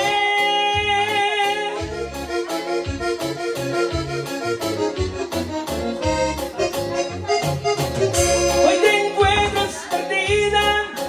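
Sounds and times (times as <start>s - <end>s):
accordion-like melody: 0.0s - 11.0s
live band playing ballad: 0.0s - 11.0s.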